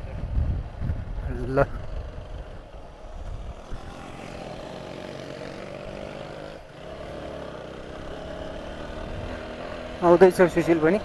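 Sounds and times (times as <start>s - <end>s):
motorcycle engine under load: 0.6s - 11.0s.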